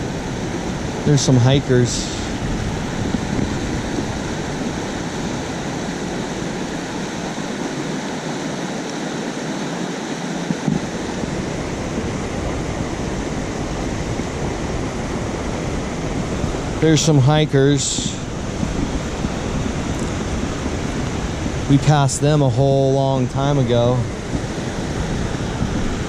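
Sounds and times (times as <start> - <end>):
fast-flowing creek rushing: 0.0 - 26.0.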